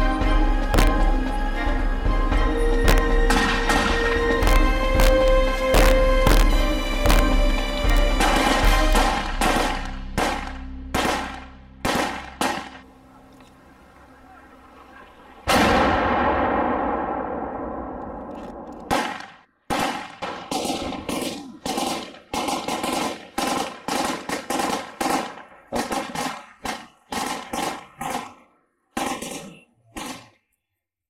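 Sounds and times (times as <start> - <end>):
rifle shots echoing: 2.9 - 12.9, 14.9 - 30.3.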